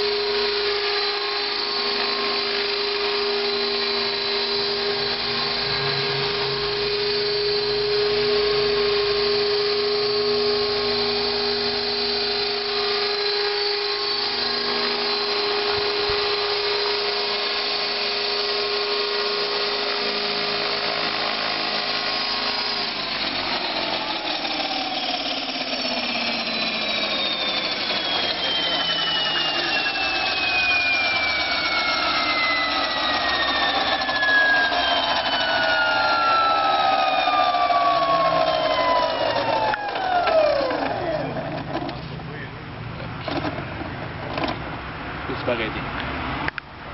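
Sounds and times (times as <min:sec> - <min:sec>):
rc helicopter motor whine: 0:00.0 - 0:44.6.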